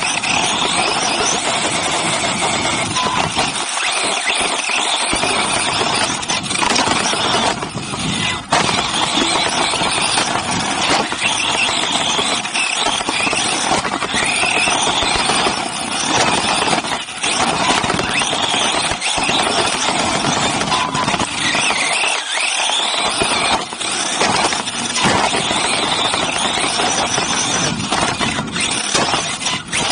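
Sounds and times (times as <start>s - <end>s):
electric motor whine: 0.0s - 29.9s
tyre dirt and wind rush: 0.0s - 29.9s.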